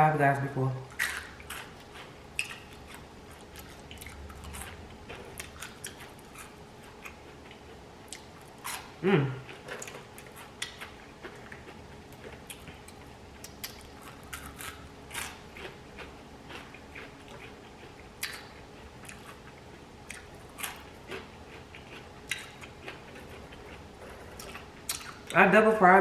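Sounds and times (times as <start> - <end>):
chewing and mouth noises: 0.9 - 25.4.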